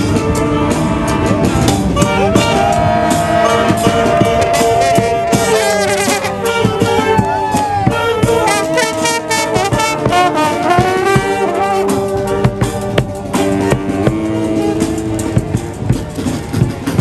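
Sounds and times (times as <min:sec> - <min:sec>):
brass horns playing: 0:00.0 - 0:17.0
steady drum beats: 0:00.0 - 0:17.0.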